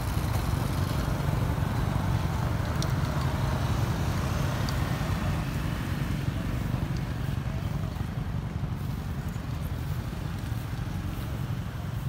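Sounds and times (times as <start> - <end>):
road traffic: 0.0 - 12.0
vehicle engine idling: 0.0 - 12.0.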